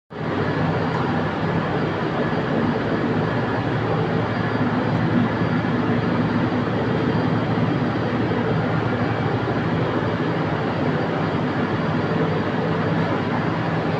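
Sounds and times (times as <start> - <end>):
industrial machinery roaring: 0.2 - 13.9.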